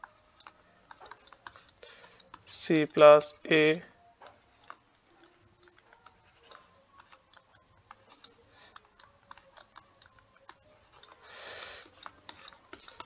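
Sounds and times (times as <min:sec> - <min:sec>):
stylus tapping on tablet screen: 0:00.0 - 0:03.5, 0:04.1 - 0:13.0.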